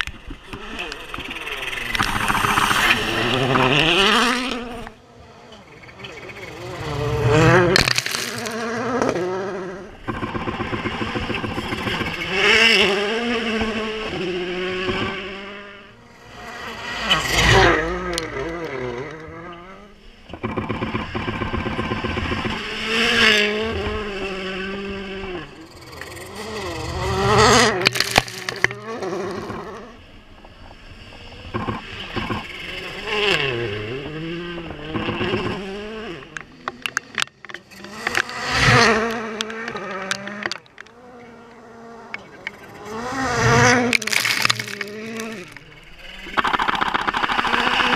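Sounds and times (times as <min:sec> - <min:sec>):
exhaust pops and crackles: 0:00.0 - 0:05.0, 0:06.6 - 0:47.9
rally car engine revving: 0:00.0 - 0:47.9.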